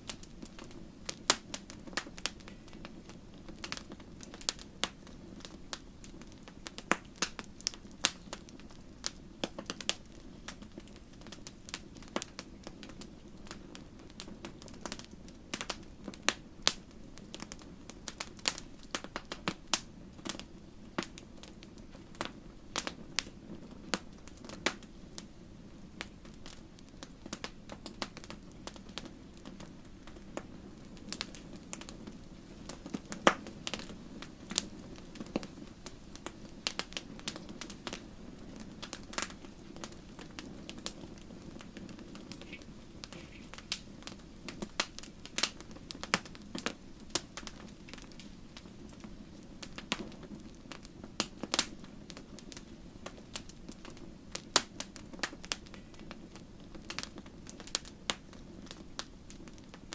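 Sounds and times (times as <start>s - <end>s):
campfire pops and snaps: 0.0s - 25.3s, 25.9s - 59.9s
low rush of flame: 0.0s - 59.9s.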